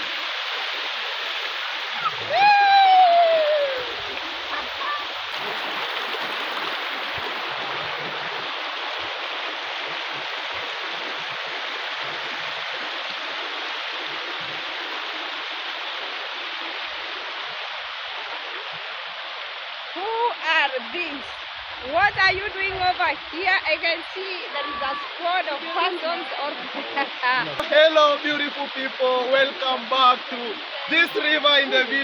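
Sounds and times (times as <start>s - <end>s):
river water rushing over rock: 0.0s - 32.0s.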